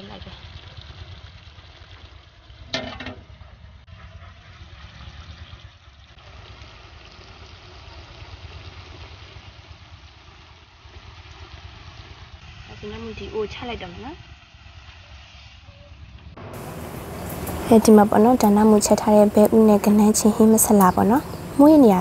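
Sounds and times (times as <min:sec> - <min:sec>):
sauce simmering hiss: 0:00.0 - 0:22.0.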